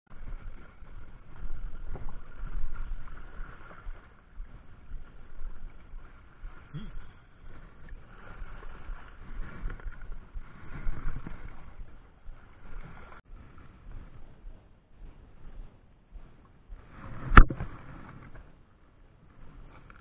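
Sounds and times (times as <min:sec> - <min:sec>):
wind rumbling on microphone: 0:00.1 - 0:20.0.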